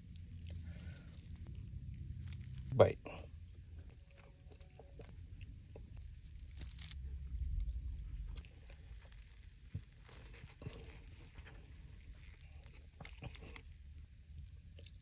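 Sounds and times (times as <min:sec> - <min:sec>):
crisp crunch: 0:00.0 - 0:02.8, 0:04.2 - 0:15.0
close-mic chewing: 0:00.0 - 0:15.0.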